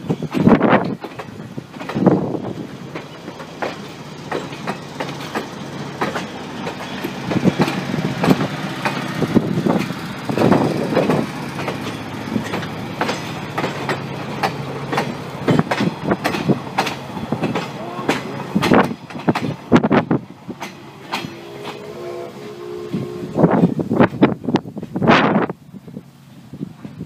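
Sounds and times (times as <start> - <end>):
train wheels clacking over rail joints: 0.0 - 25.0
low rumble of rolling coaches: 0.0 - 27.0.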